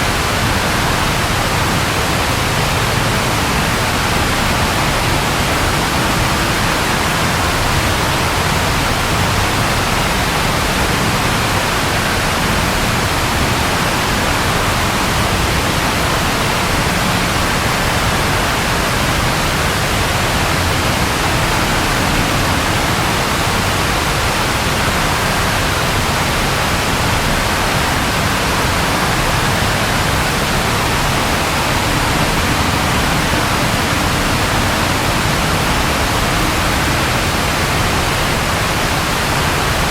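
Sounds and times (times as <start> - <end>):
rainfall hiss: 0.0 - 39.9.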